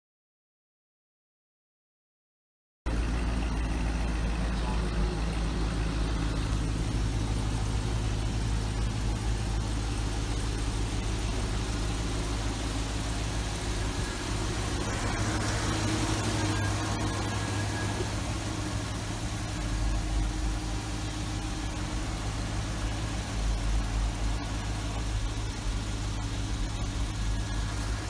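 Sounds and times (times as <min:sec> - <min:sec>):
car engine idling: 0:02.9 - 0:28.0.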